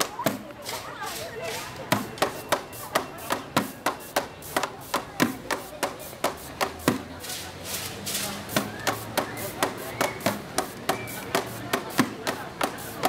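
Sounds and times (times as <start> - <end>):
sticks beating on buckets: 0.0 - 13.0.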